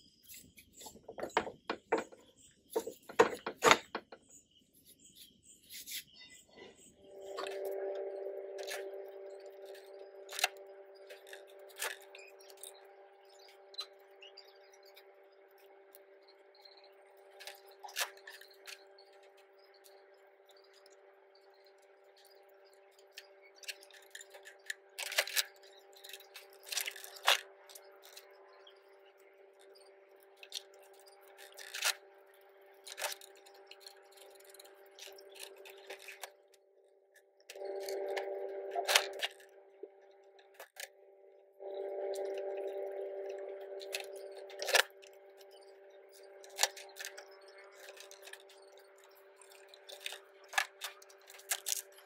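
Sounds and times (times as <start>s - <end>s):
steady hum: 6.9s - 36.5s, 37.5s - 52.0s.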